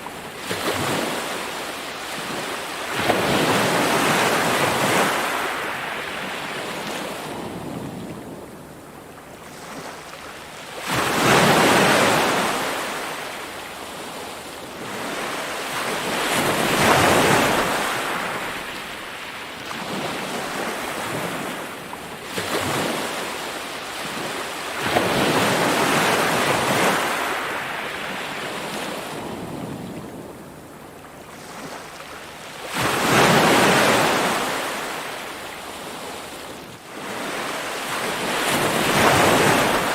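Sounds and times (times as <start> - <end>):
ocean waves crashing: 0.0 - 8.0, 10.7 - 29.8, 32.6 - 39.9.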